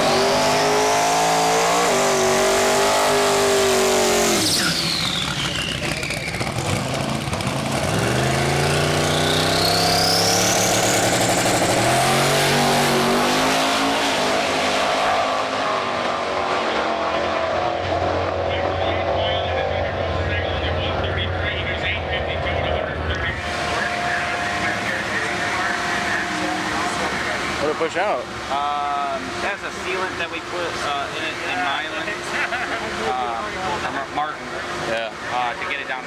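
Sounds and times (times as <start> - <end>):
engine accelerating hard: 0.0 - 36.0.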